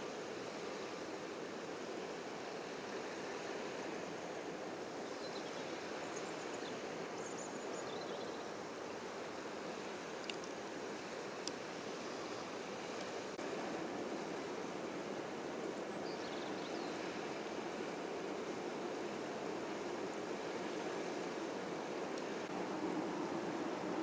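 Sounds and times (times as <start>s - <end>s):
steady rush of riverside water: 0.0s - 24.0s.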